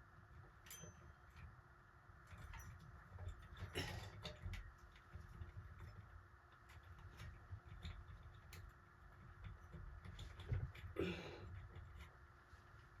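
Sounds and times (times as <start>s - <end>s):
small clicks and taps: 2.2s - 12.9s.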